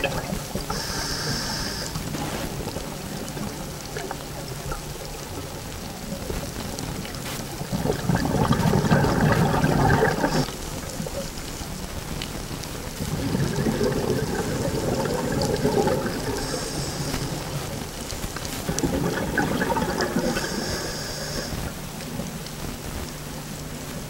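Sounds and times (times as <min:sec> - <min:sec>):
underwater exhaust bubbles rushing: 0:00.0 - 0:22.8
quiet underwater hiss: 0:00.0 - 0:24.0.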